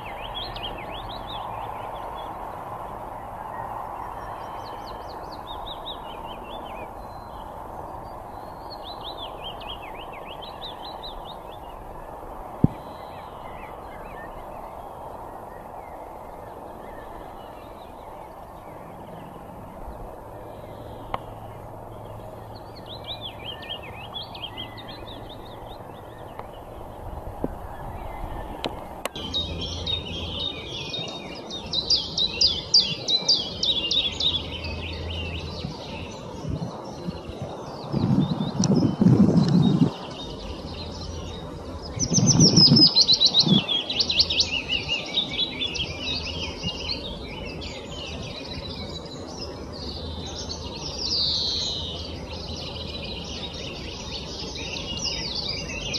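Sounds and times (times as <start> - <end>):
background hiss: 0.0 - 55.9
leaf warbler singing: 0.0 - 55.9.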